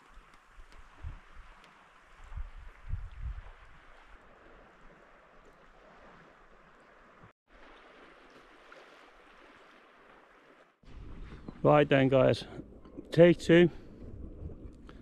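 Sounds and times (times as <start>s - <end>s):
sea water rushing at shore: 0.0s - 15.0s.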